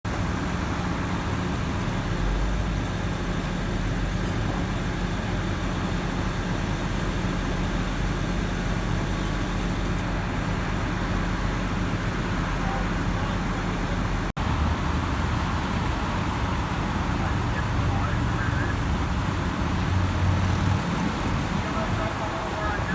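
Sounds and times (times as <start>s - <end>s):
heavy equipment diesel engines: 0.1s - 22.9s.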